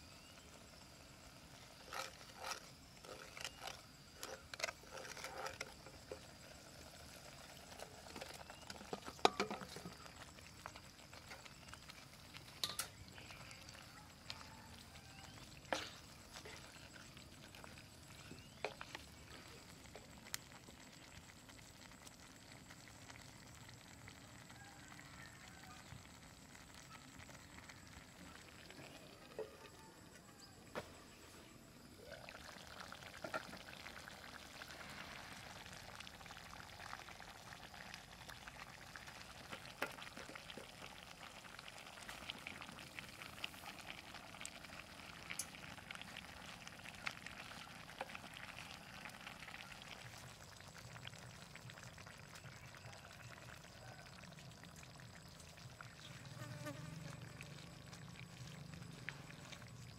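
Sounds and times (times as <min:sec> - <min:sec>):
stew bubbling and crackling: 0:00.0 - 0:59.9.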